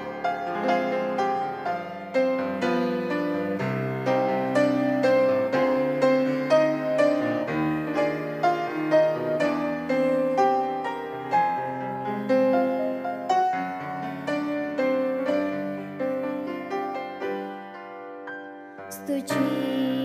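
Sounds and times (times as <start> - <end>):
slow gentle piano: 0.0 - 20.0.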